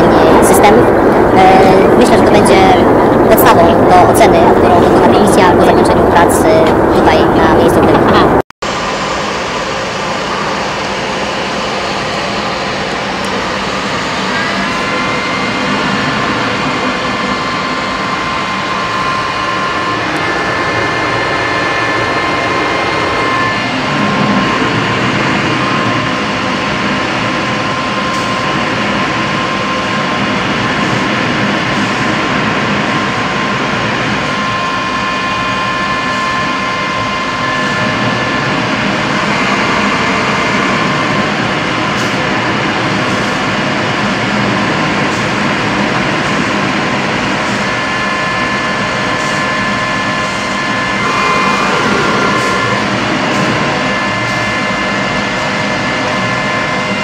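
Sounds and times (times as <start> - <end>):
jet engine airflow rush: 0.0 - 57.0
thin steady whine: 0.0 - 57.0.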